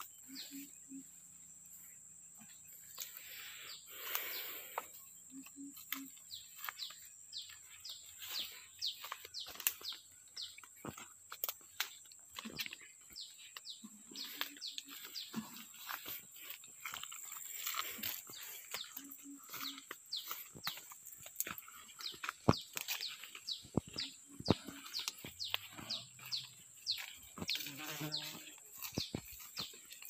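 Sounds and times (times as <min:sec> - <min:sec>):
birds chirping: 0:00.0 - 0:30.0
high insect drone: 0:00.0 - 0:30.0
footsteps on dry ground: 0:02.4 - 0:30.0.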